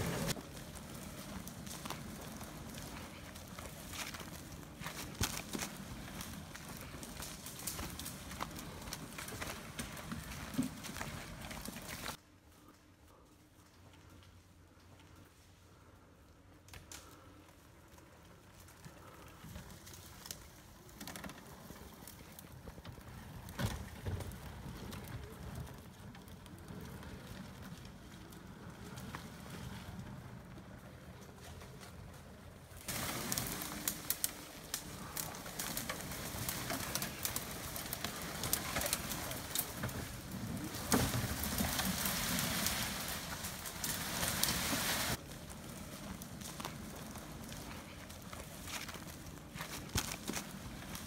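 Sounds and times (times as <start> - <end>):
brush crackling: 0.0 - 51.0.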